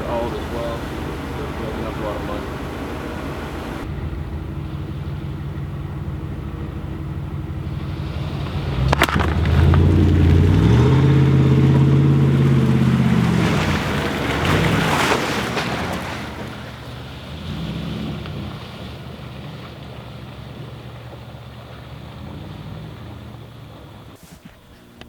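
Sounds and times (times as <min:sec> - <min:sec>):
vehicle engine revving: 0:00.0 - 0:24.2
tyres spinning and mud spraying: 0:00.0 - 0:25.0.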